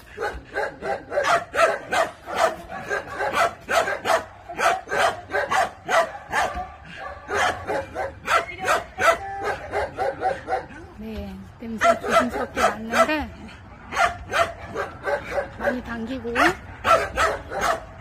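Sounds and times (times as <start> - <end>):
dog barking rapidly: 0.1 - 10.8, 11.7 - 18.0.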